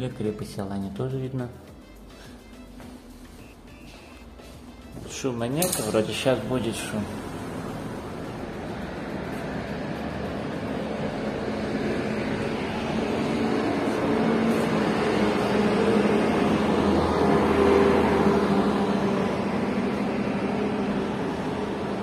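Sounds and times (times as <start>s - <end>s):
road vehicle passing: 1.9s - 22.0s.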